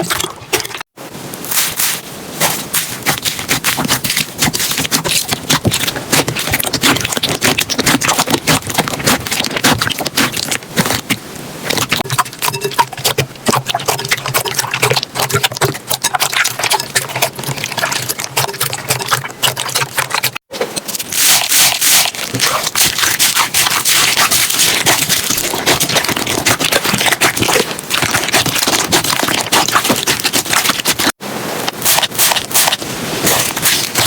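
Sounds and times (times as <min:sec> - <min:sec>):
slime squelching and popping: 0:01.6 - 0:34.0.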